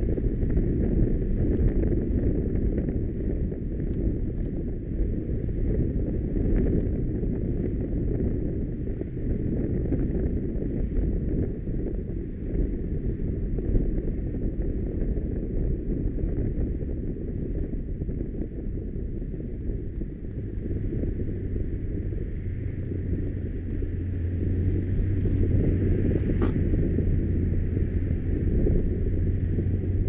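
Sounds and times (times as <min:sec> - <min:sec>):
motorcycle engine hum: 0:00.0 - 0:30.0
wind buffeting microphone: 0:00.0 - 0:30.0.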